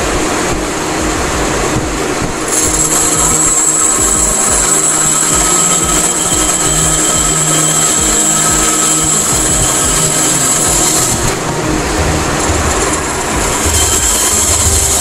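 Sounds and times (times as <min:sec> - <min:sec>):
band saw cutting wood: 0:02.4 - 0:15.0.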